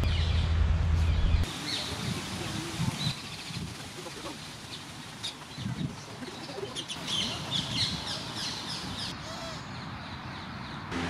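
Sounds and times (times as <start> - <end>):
birds calling rapidly: 0.0 - 11.0.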